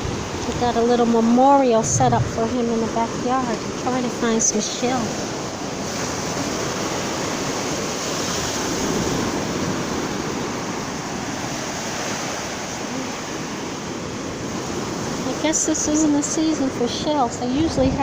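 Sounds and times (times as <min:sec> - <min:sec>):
ocean waves washing onto beach: 0:00.0 - 0:18.0
wind buffeting microphone: 0:00.0 - 0:18.0.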